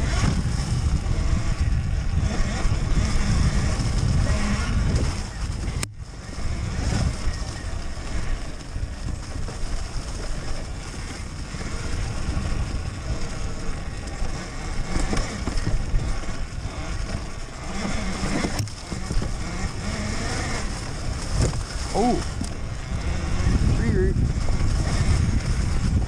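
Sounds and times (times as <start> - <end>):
dirt bike riding rumble: 0.0 - 26.0.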